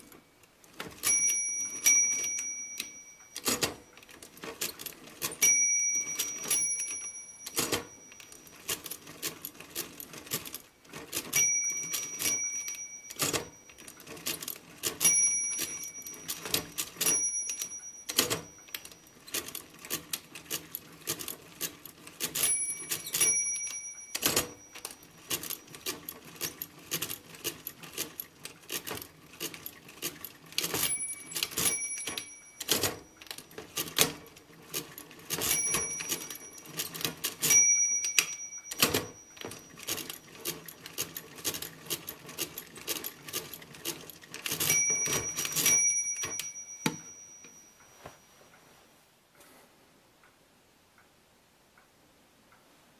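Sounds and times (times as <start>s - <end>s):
mechanical calculator clicking: 0.0s - 47.8s.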